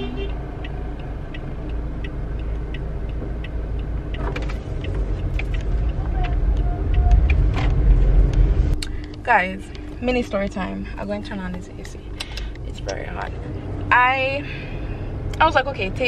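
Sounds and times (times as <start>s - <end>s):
light ticking: 0.0s - 14.4s
car engine and road rumble: 0.0s - 16.0s.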